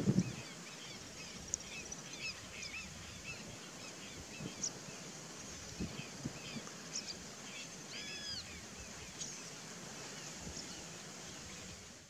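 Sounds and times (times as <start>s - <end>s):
birds chirping: 0.0s - 11.8s
background hiss: 0.0s - 12.0s.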